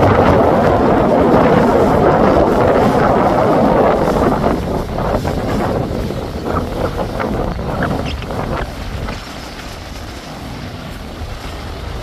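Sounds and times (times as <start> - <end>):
motor yacht engine drone: 0.0 - 12.0
wind buffeting microphone: 0.0 - 12.0.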